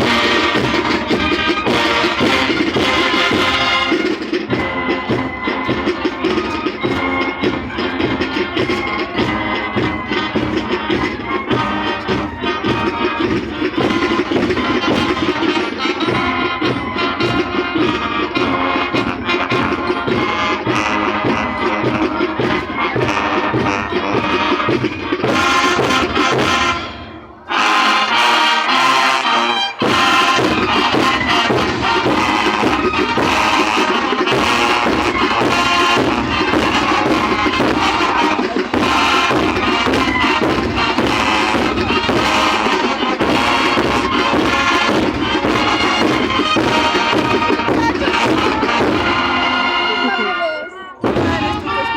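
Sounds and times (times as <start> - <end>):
marching band brass and drums: 0.0 - 51.9.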